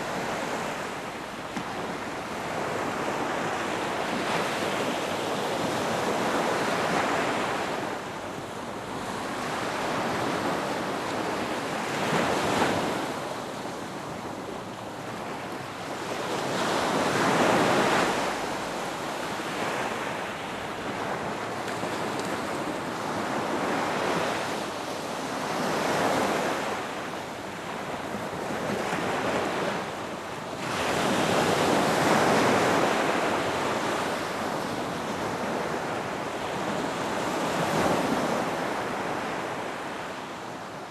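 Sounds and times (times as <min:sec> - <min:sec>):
ocean surf breaking on beach: 0:00.0 - 0:40.9.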